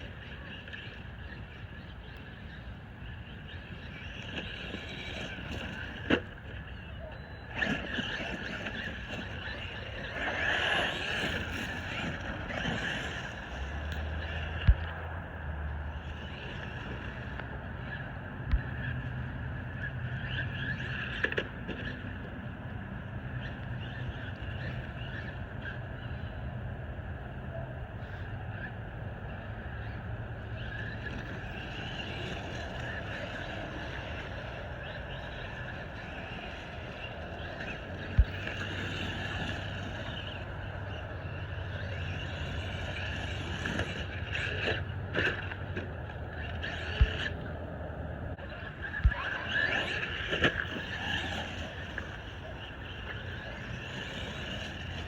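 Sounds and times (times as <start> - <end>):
rc truck motor whine: 0.0 - 55.0.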